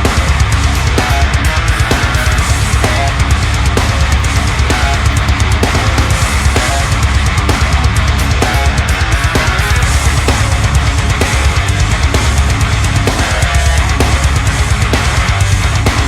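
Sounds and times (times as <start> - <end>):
distorted electric guitar: 0.0 - 16.0
driving drum beat: 0.0 - 16.0.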